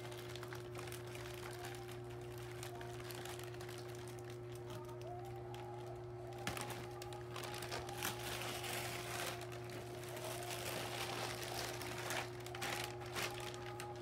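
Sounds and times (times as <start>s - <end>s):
plastic bag and bubble wrap crinkling: 0.0s - 14.0s
steady low hum: 0.0s - 14.0s.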